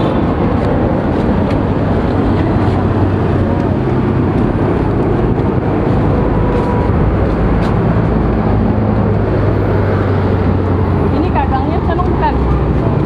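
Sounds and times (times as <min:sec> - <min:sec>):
low engine hum: 0:00.0 - 0:13.0
passing motor vehicles: 0:00.0 - 0:13.0.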